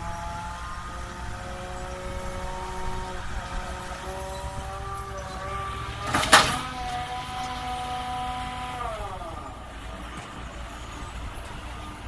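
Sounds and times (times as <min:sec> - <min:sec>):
crane engine whining: 0:00.0 - 0:12.0.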